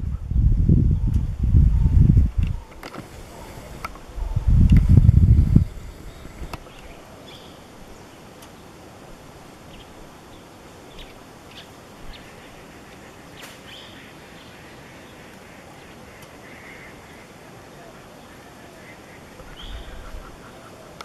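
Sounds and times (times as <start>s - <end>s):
steady forest hiss: 0.0s - 21.0s.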